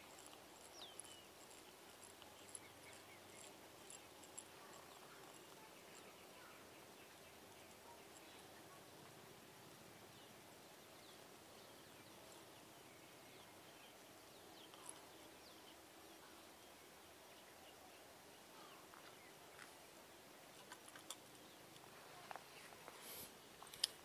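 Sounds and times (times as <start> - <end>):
faint bird chirps: 0.0 - 20.0
faint outdoor hiss: 0.0 - 24.0.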